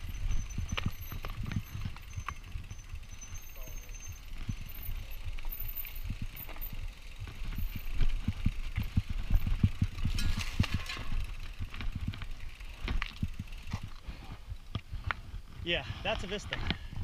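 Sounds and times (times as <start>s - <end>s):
bike knocks and rattles: 0.0s - 15.7s.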